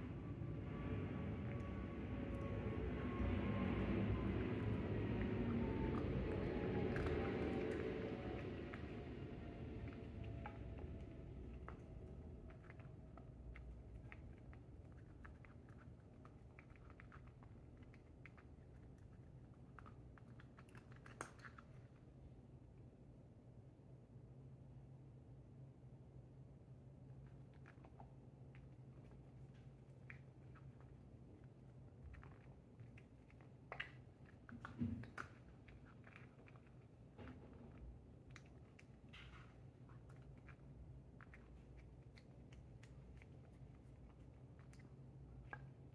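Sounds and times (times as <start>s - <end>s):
cat chewing: 0.0s - 22.2s, 27.1s - 45.9s
low room hum: 0.0s - 45.9s.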